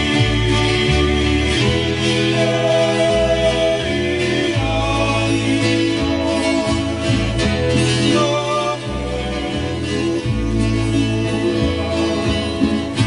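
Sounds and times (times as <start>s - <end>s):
acoustic guitar: 0.0s - 13.0s
men singing slow song: 0.0s - 13.0s
steady bass line: 0.0s - 13.0s.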